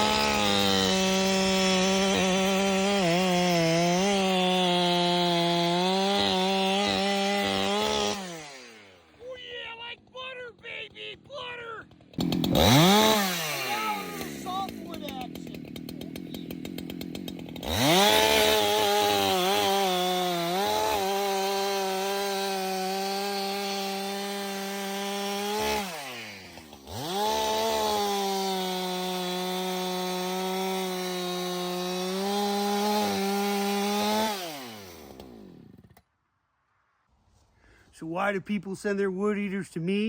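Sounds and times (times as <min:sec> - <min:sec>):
chainsaw cutting wood: 0:00.0 - 0:36.1.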